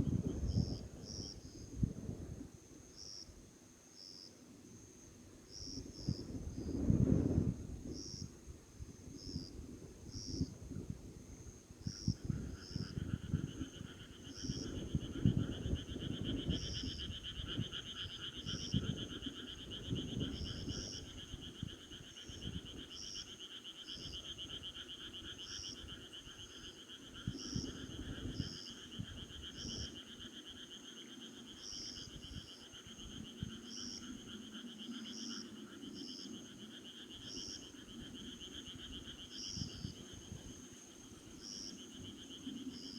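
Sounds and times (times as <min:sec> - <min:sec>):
insects chirping: 0:02.6 - 0:42.9.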